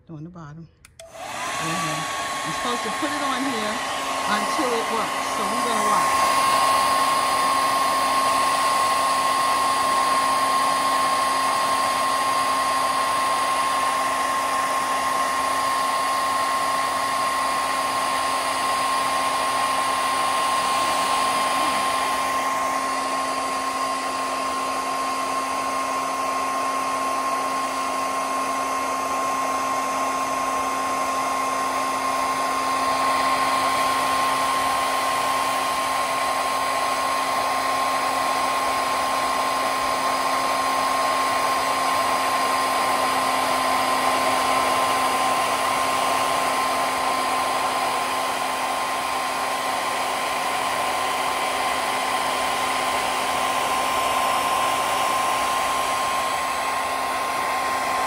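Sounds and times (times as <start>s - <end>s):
hair dryer whining: 0.0s - 58.0s.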